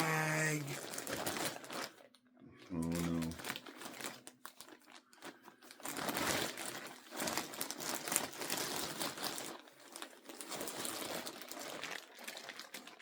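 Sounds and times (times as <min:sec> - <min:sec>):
bag crinkling and rustling: 0:00.1 - 0:02.2, 0:02.8 - 0:13.0.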